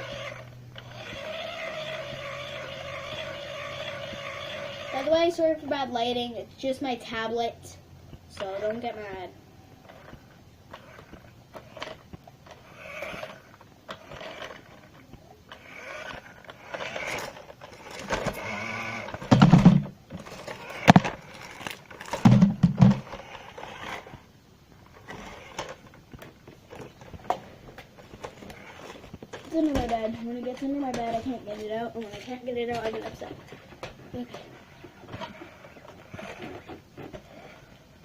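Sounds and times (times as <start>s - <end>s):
toy car scraping and knocking: 0.0s - 5.4s, 8.4s - 38.0s
toy car motor whirring: 0.0s - 6.2s, 8.4s - 38.0s.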